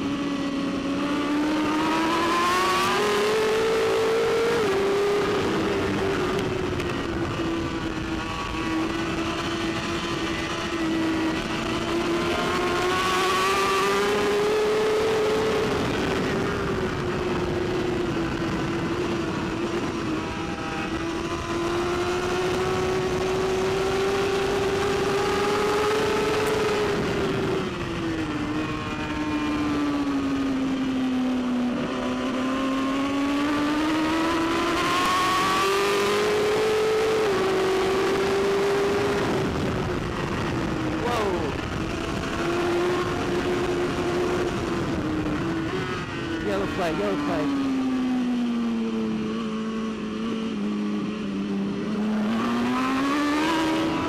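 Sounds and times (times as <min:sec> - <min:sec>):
motorcycle engine at racing speed: 0:00.0 - 0:54.0.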